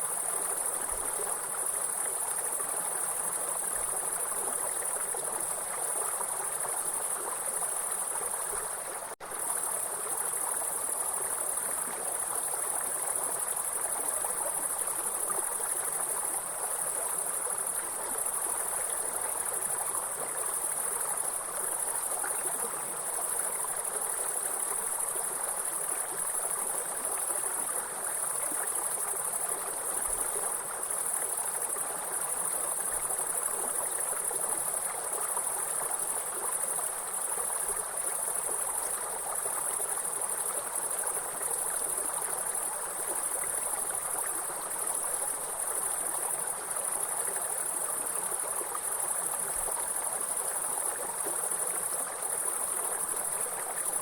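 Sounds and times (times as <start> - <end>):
insects chorus: 0.0 - 54.0
stream water flowing: 0.0 - 54.0.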